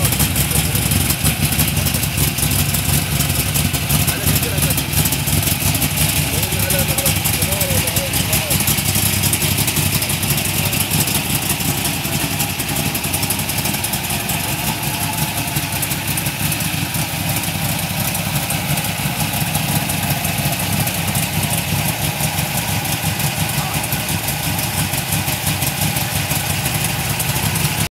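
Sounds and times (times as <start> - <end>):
car engine idling roughly: 0.0 - 27.9.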